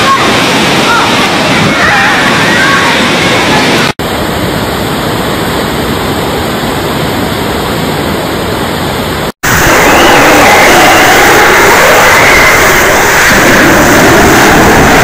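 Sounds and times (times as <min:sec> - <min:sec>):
torrential rain pouring: 0:00.0 - 0:04.0, 0:05.0 - 0:15.0.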